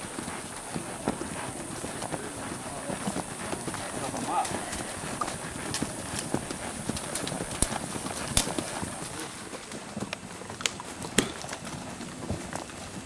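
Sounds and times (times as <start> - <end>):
horse hooves clopping on dirt: 0.0 - 13.0.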